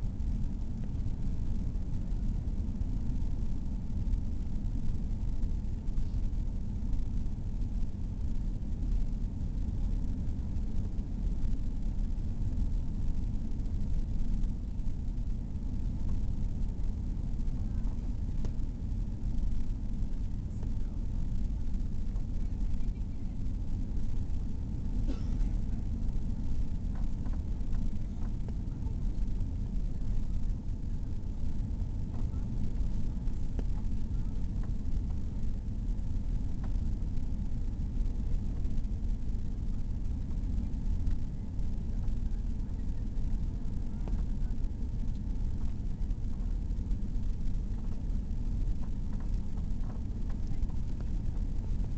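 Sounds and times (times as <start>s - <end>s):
airplane cabin engine rumble: 0.0s - 51.9s.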